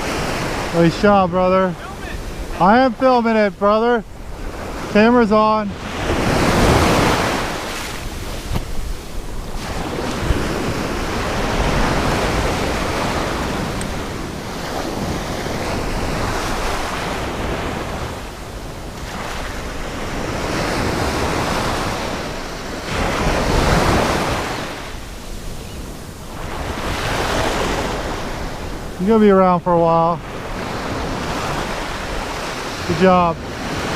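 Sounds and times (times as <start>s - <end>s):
wind buffeting microphone: 0.0s - 29.6s
surf breaking on a beach: 0.0s - 33.9s.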